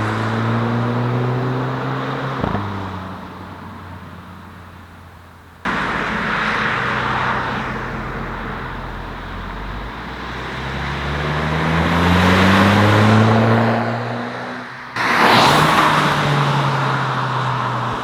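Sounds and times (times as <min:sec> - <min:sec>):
car engine accelerating: 0:00.0 - 0:18.0
road and tyre noise: 0:00.0 - 0:18.0.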